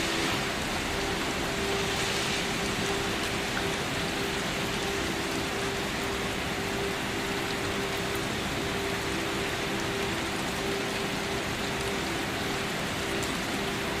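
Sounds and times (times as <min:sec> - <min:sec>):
rain pattering on surfaces: 0:00.0 - 0:14.0.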